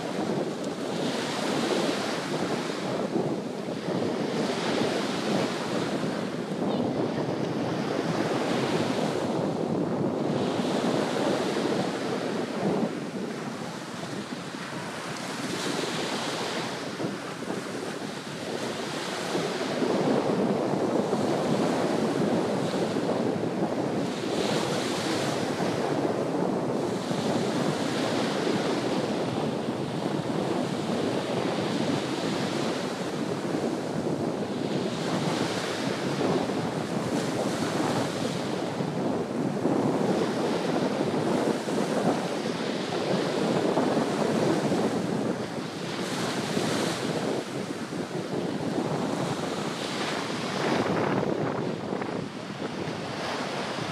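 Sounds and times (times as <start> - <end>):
small waves washing up sand: 0.0 - 53.9.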